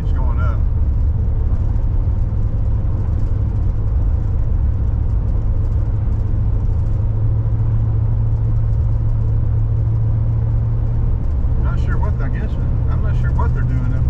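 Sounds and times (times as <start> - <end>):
car engine hum: 0.0 - 14.0.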